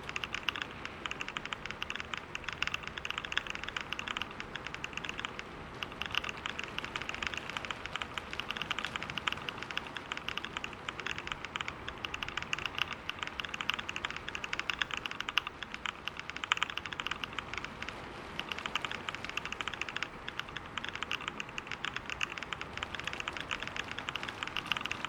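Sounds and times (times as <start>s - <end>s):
fast typing on computer keyboard: 0.0s - 25.0s.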